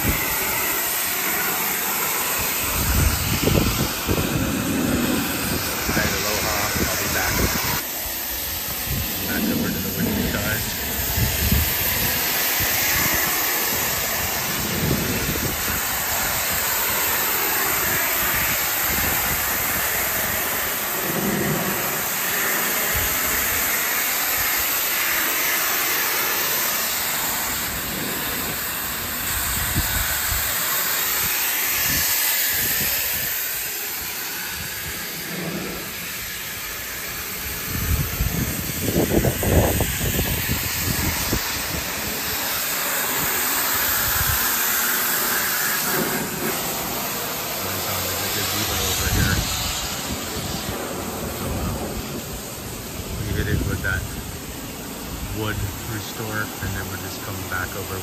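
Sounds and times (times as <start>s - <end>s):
pressure washer spraying wood: 0.0s - 58.0s.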